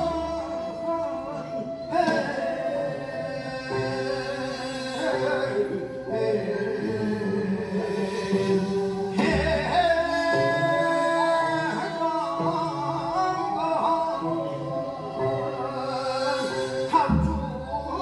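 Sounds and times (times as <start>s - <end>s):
instrumental accompaniment: 0.0s - 18.0s
person singing folk song: 0.0s - 18.0s.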